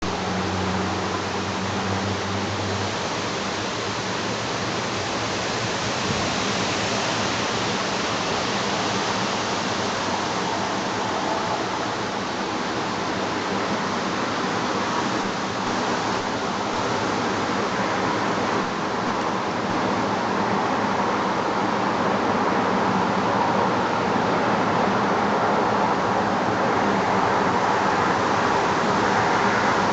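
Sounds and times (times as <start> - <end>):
strong wind blowing: 0.0 - 29.9.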